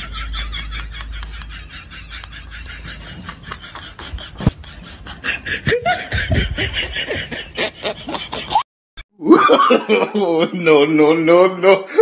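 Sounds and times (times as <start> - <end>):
person laughing in rapid bursts: 0.0 - 8.6, 9.2 - 10.5.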